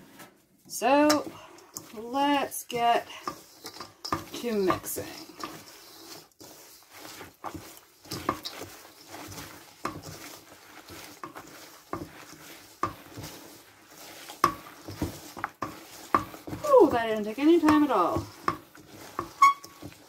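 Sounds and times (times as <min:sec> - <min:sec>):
hands squelching batter: 0:00.8 - 0:20.0.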